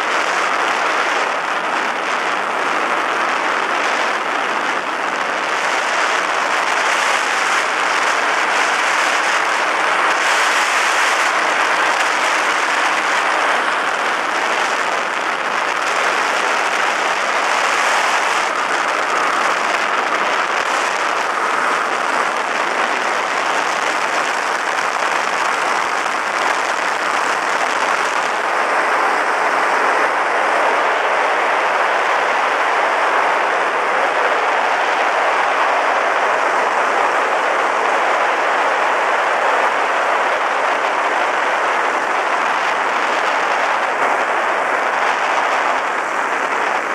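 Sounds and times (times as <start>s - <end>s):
engine and propeller drone: 0.0s - 46.9s
wind buffeting microphone: 0.0s - 46.9s.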